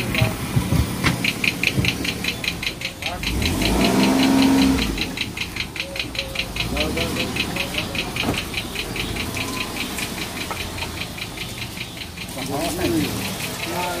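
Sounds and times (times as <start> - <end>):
faint voices: 0.0 - 14.0
rapid even ticking: 0.0 - 14.0.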